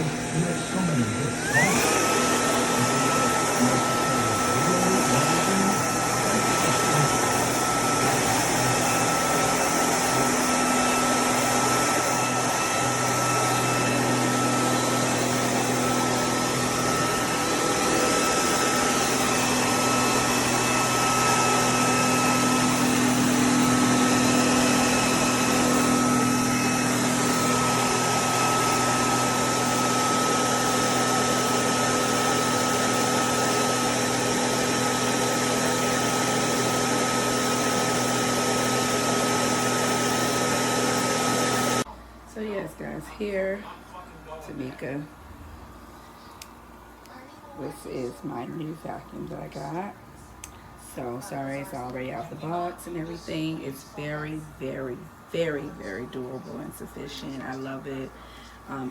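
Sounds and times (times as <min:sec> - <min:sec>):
stick vacuum running: 0:00.0 - 0:42.6, 0:45.7 - 0:58.9.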